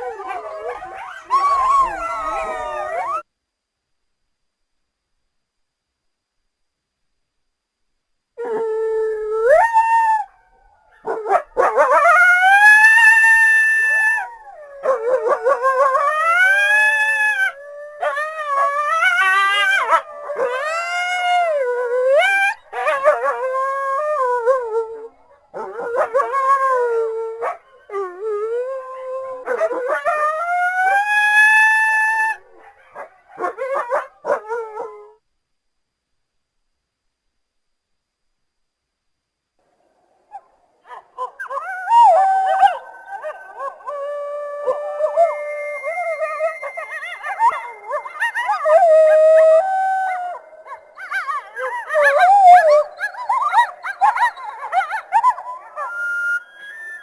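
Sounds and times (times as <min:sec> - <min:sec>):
wolves howling: 0:00.0 - 0:03.3, 0:08.4 - 0:35.2, 0:41.2 - 0:57.0.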